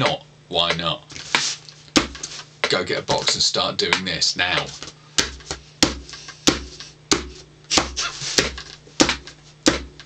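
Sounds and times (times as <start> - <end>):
hand slapping cardboard box: 1.2 - 3.4, 4.0 - 10.0.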